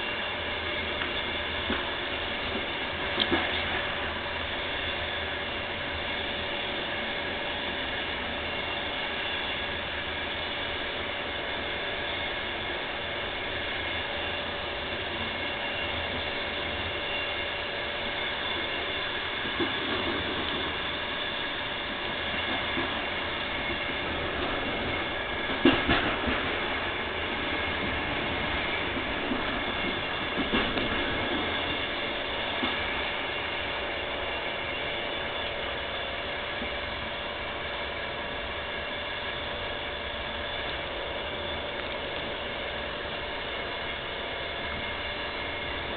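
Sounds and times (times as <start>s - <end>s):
train electric hum: 0.0s - 45.9s.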